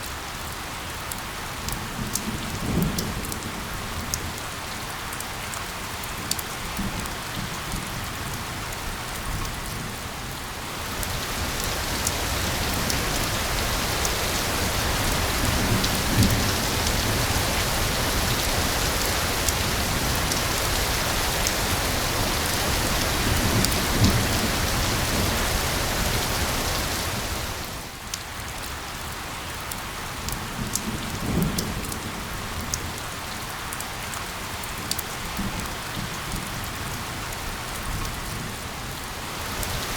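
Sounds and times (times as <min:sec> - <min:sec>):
sharp ticks of raindrops: 0:00.0 - 0:39.9
steady rain hissing: 0:00.0 - 0:39.9.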